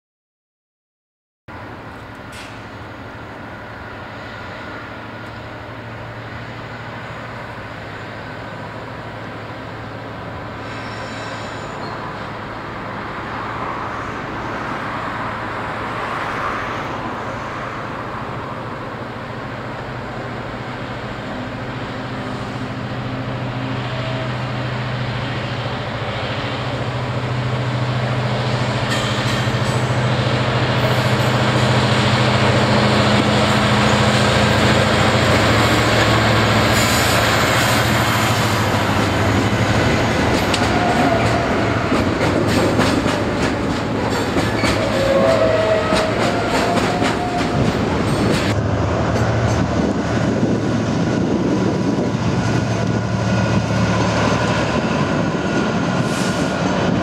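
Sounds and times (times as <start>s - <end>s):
diesel locomotive engine drone: 1.5s - 57.0s.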